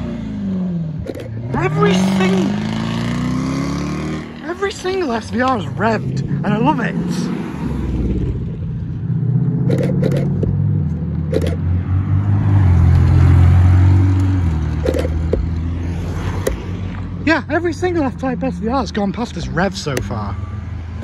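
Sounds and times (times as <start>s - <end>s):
car engines driving past: 0.0s - 21.0s.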